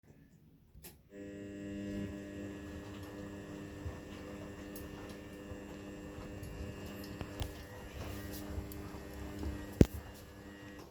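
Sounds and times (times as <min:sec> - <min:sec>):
washing machine motor humming: 0:01.0 - 0:10.9.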